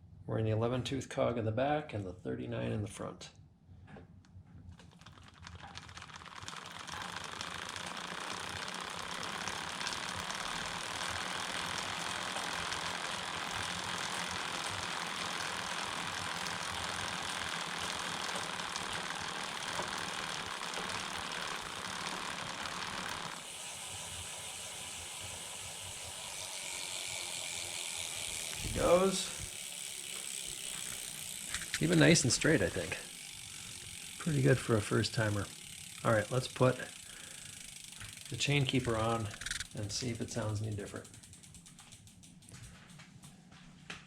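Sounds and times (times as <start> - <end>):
bicycle chain clattering whir: 4.8 - 43.3.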